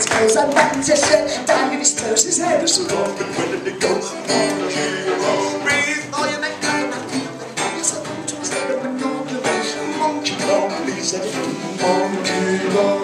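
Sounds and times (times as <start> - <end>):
folk-rock band playing: 0.0 - 13.0
man singing: 0.0 - 13.0
plucked string instrument: 0.0 - 13.0
strummed acoustic guitar: 0.0 - 13.0.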